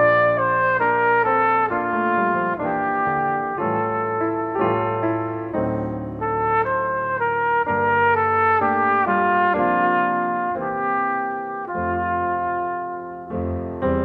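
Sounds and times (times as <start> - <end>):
cornet melody: 0.0 - 14.0
sustained piano chords: 0.0 - 14.0.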